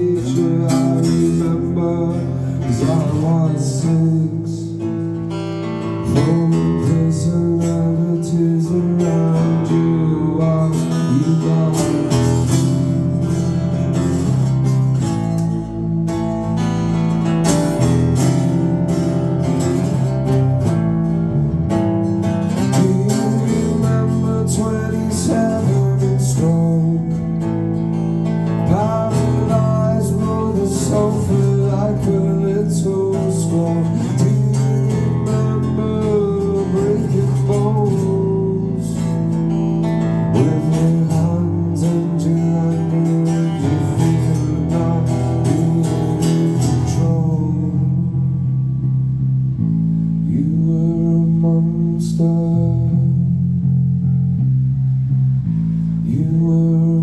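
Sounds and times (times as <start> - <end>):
strummed acoustic guitar: 0.0 - 57.0.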